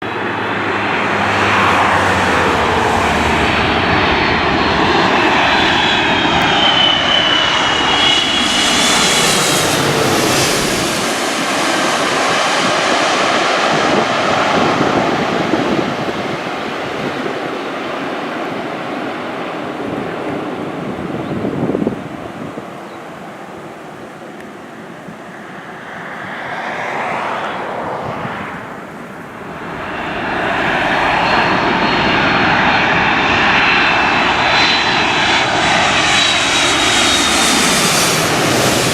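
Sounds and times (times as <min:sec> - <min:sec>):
airliner passing overhead: 0:00.0 - 0:38.9.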